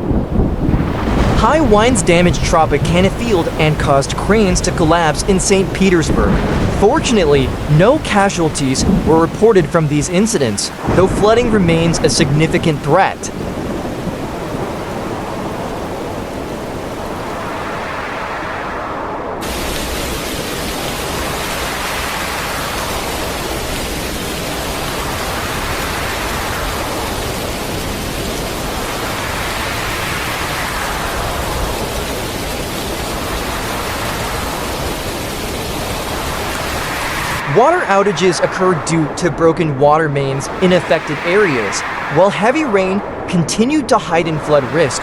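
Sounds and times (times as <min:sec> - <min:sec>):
heavy storm rain: 0:00.0 - 0:45.0
wind: 0:00.0 - 0:45.0.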